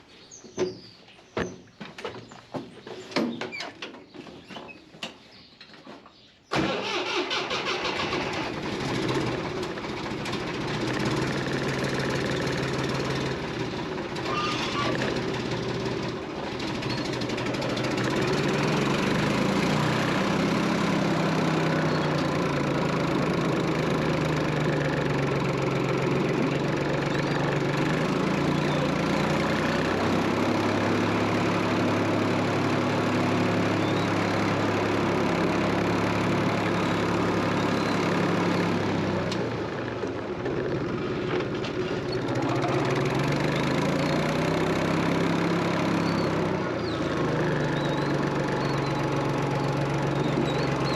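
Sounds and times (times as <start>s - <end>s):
engine running: 6.5s - 50.9s.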